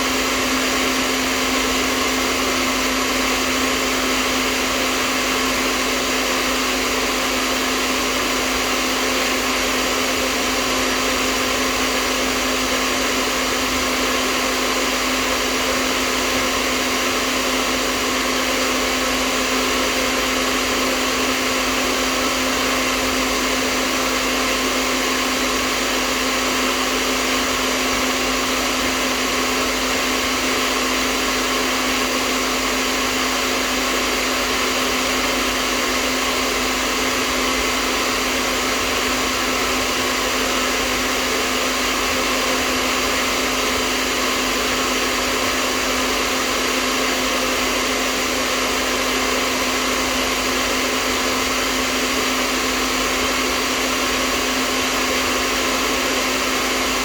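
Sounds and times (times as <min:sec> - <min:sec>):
hairdryer whirring: 0:00.0 - 0:57.0.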